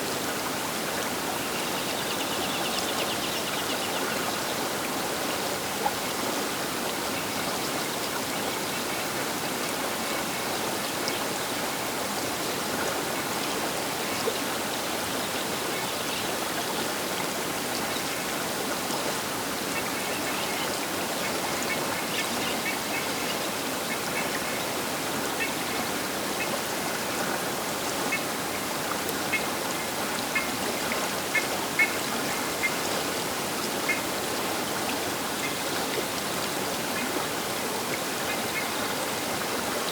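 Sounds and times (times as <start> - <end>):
river water rushing: 4.1 - 39.9.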